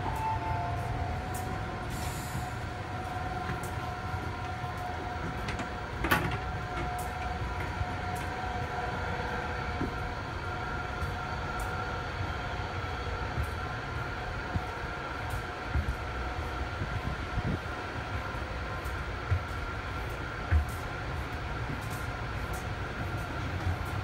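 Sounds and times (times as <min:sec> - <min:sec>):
train rumble and whine: 0:00.0 - 0:24.0.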